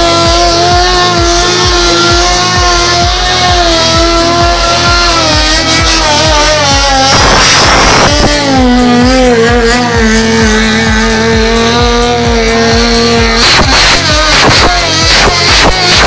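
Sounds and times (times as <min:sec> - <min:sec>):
motorcycle engine revving: 0:00.0 - 0:16.0
music with steady beat: 0:00.0 - 0:16.0.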